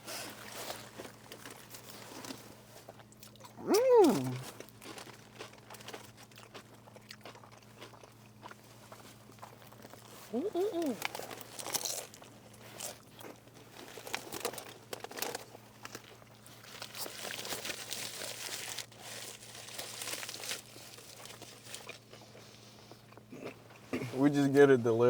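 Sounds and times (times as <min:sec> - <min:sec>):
food packaging crinkling: 0:00.1 - 0:23.3.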